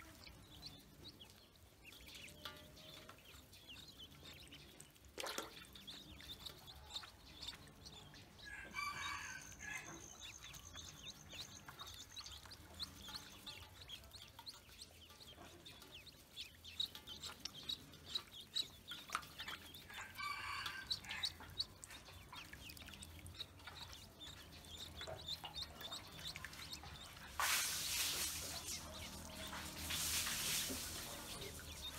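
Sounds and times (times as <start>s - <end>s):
ducklings peeping: 0.0s - 31.9s.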